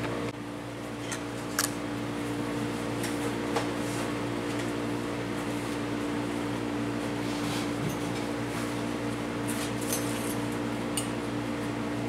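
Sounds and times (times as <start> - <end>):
welder electrical hum: 0.0 - 12.0.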